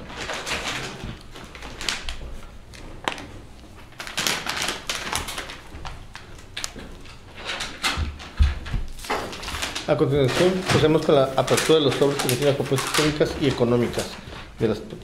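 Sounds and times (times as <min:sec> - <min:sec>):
paper and envelopes rustling: 0:00.0 - 0:15.0.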